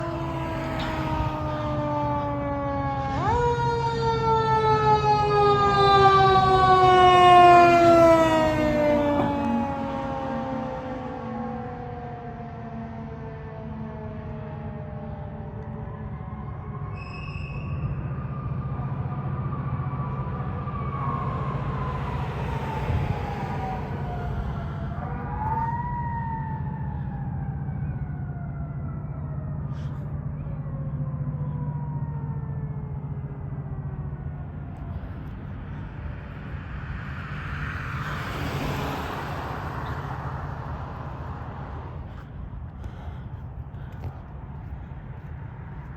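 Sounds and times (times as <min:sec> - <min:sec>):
truck engine rumble: 0:00.0 - 0:16.9, 0:17.9 - 0:45.9
fire truck siren wailing: 0:00.0 - 0:45.9.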